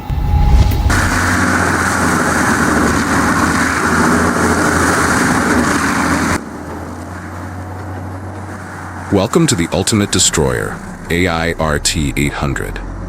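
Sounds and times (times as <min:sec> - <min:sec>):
heavy machinery grinding: 0:00.0 - 0:13.0
low engine hum: 0:00.0 - 0:13.0.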